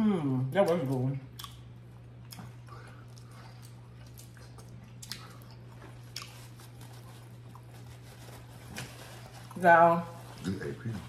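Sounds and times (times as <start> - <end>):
steady low hum: 0.0 - 11.0
soft chewing: 0.6 - 11.0.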